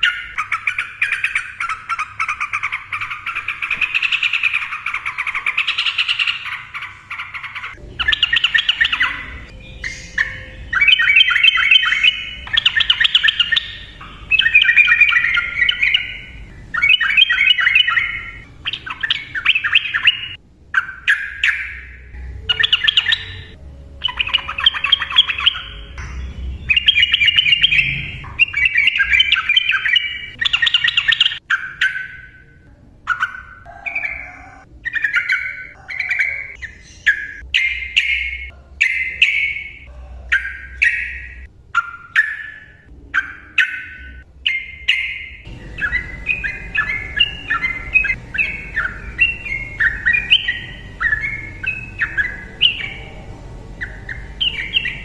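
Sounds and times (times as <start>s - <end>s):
bird singing trilled phrases: 0.0s - 55.0s.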